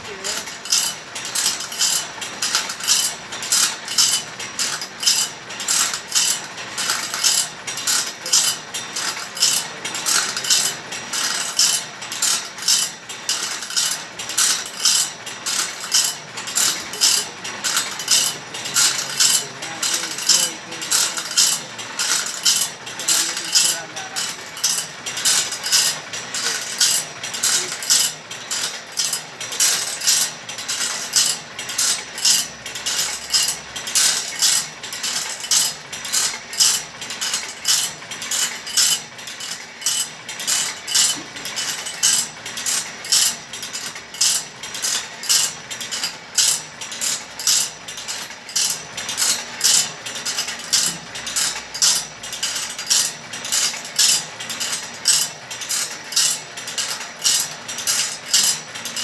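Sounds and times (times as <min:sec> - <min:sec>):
grinding wheel rasping on metal: 0:00.0 - 0:59.0.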